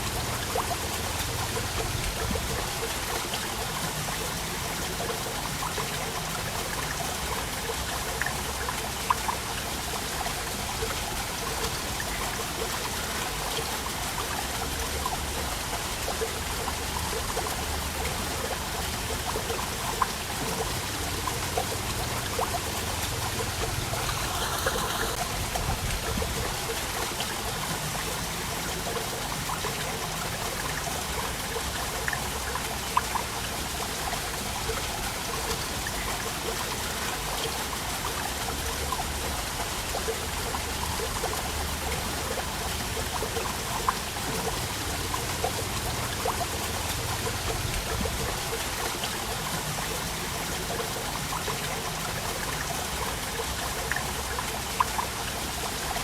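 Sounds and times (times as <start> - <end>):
water drips and splashes: 0.0 - 56.0
waterfall rushing: 0.0 - 56.0.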